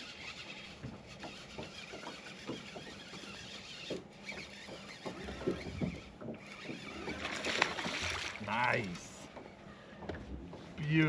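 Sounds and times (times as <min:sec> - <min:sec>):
fishing reel whirring and clicking: 0:00.0 - 0:09.1.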